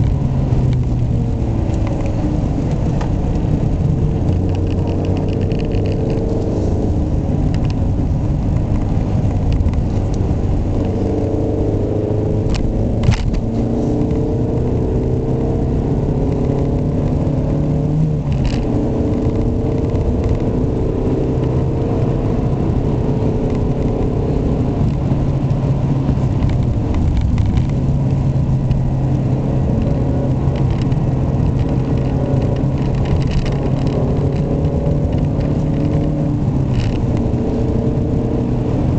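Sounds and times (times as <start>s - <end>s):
car engine running: 0.0s - 38.9s
tyre and road noise: 0.0s - 38.9s.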